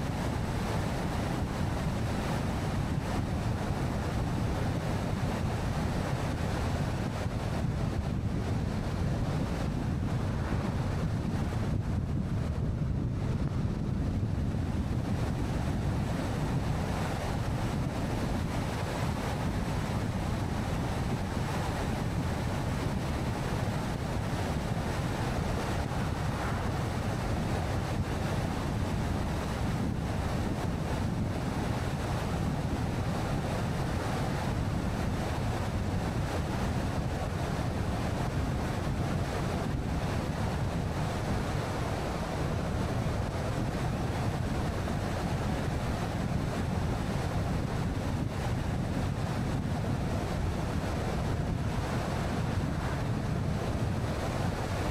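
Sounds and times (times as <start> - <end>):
car road and wind noise: 0.0 - 54.9.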